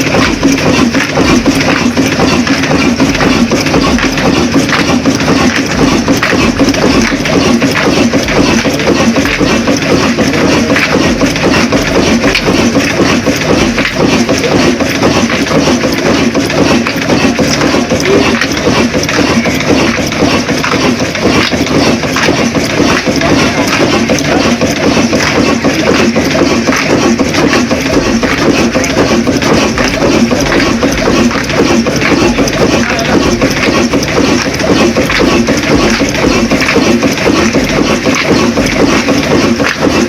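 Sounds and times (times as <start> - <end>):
diesel engine clattering: 0.0 - 40.0.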